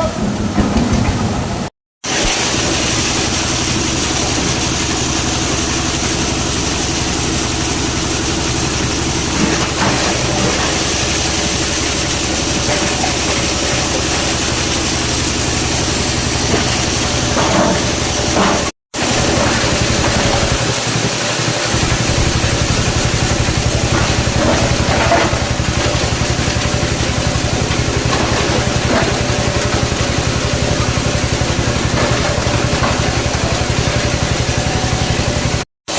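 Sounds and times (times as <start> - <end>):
shredder machine humming: 0.2 - 35.9.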